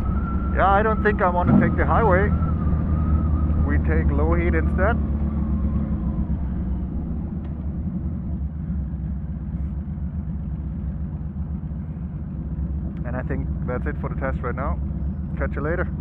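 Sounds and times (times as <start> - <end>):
motorcycle engine rumble: 0.0 - 16.0.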